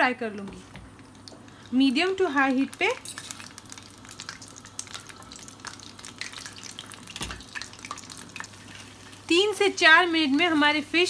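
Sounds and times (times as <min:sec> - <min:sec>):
fish deep-frying in oil: 0:00.9 - 0:11.0.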